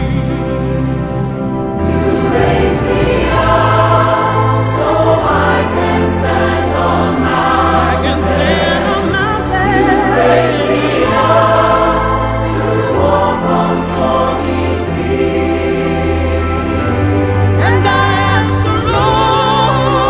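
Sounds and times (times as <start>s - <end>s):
choir singing: 0.0s - 20.0s
sustained instrumental accompaniment: 0.0s - 20.0s.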